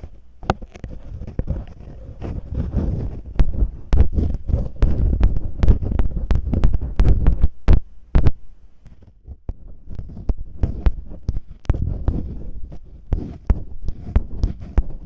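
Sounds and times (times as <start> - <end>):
low rubbing noise: 0.0 - 15.0
masking tape crackling: 0.0 - 15.0.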